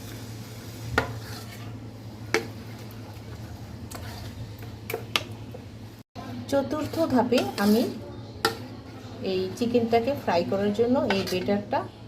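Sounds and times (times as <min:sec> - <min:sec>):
batter stirred in a bowl: 0:00.0 - 0:05.6, 0:06.6 - 0:12.0.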